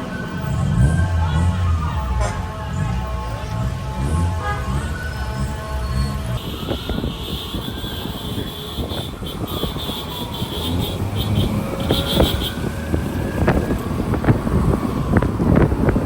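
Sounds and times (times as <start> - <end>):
vehicle engine rising and falling: 0.0 - 16.0
wind buffeting microphone: 0.0 - 16.0.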